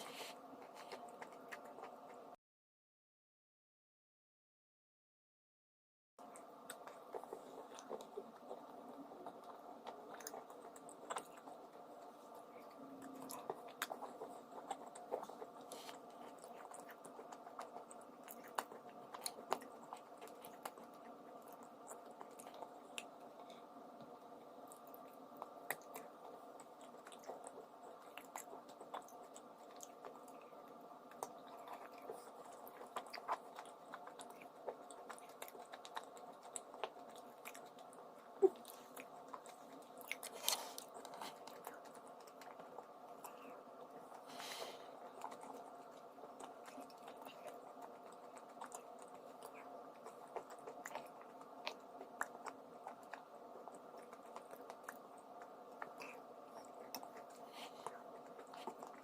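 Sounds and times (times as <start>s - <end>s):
person chewing crunchy food: 0.0s - 2.3s, 6.2s - 59.0s
low background hum: 0.0s - 2.4s, 6.2s - 59.0s.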